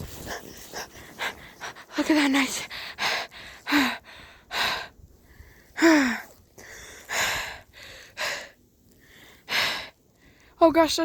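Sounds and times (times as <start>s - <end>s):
person breathing hard: 0.0s - 10.6s.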